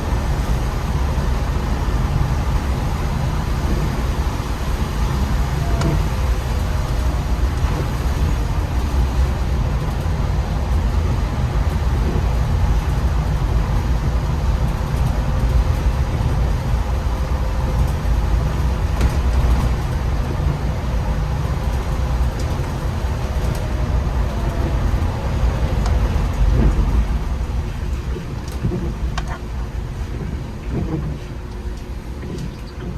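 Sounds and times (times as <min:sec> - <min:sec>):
bus engine and road rumble: 0:00.0 - 0:32.9.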